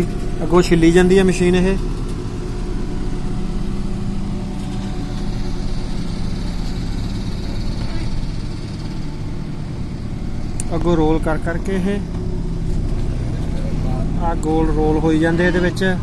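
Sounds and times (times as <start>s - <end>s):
turf harvester engine drone: 0.0s - 16.0s.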